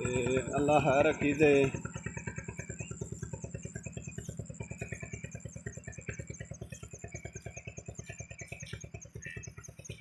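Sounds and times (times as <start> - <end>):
single-cylinder engine thumping: 0.0 - 10.0.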